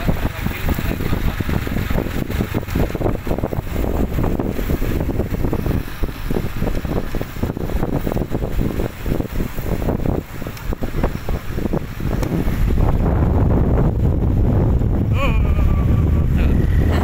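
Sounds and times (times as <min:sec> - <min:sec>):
motorcycle engine running: 0:00.0 - 0:17.0
road noise: 0:00.0 - 0:17.0
wind buffeting microphone: 0:00.0 - 0:17.0.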